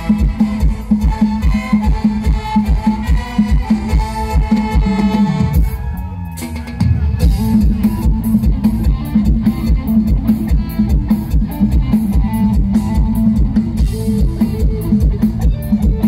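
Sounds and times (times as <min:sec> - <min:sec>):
bass guitar: 0:00.0 - 0:16.0
electric guitar: 0:00.0 - 0:16.0
fast drum beat: 0:00.0 - 0:16.0.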